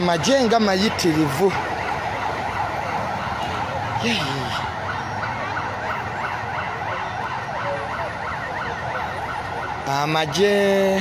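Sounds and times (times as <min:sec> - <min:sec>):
emergency sirens wailing: 0:00.0 - 0:11.0
street noise: 0:00.0 - 0:11.0.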